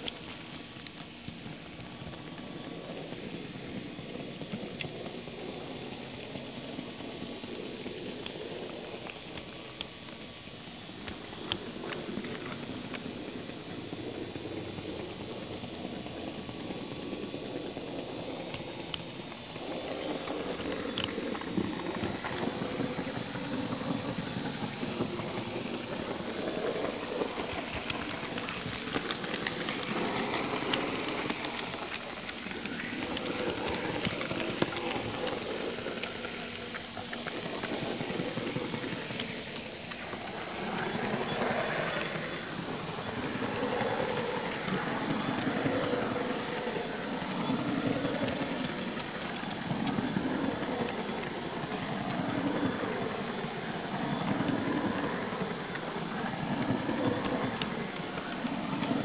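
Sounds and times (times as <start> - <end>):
model train wheels rumbling: 0.0 - 59.0
sharp clicks of train: 0.0 - 59.0.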